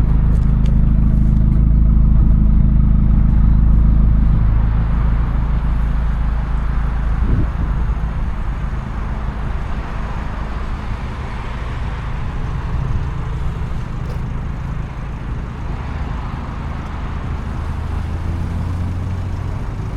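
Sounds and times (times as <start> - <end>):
car engine running at low revs: 0.0 - 19.9.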